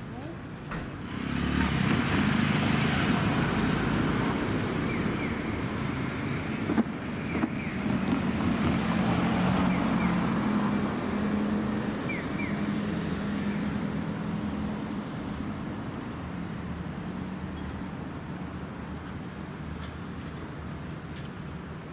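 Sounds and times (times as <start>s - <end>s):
outdoor noise: 0.0s - 21.9s.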